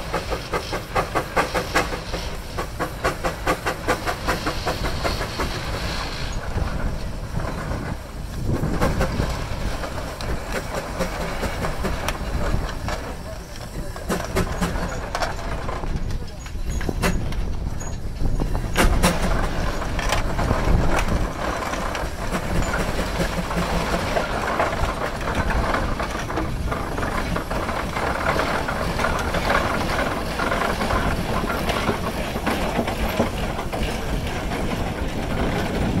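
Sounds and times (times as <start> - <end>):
steam traction engine clattering: 0.0 - 36.0.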